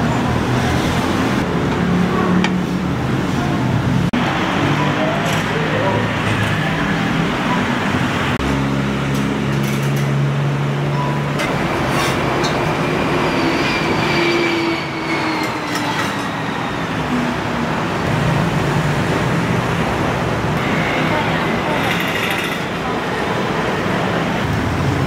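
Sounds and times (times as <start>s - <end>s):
street traffic noise: 0.0s - 25.0s.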